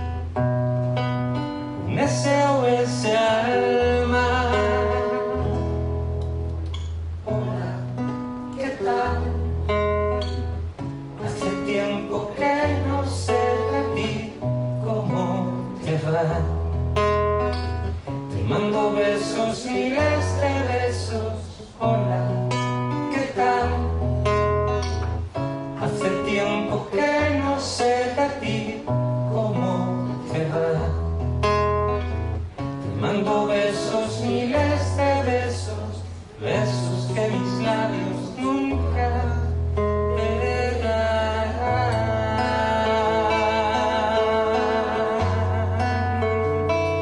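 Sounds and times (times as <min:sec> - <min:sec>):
nylon-string acoustic guitar: 0:00.0 - 0:47.0
man singing: 0:01.8 - 0:05.6, 0:07.2 - 0:10.2, 0:11.2 - 0:16.8, 0:18.3 - 0:24.8, 0:25.8 - 0:31.2, 0:32.9 - 0:47.0.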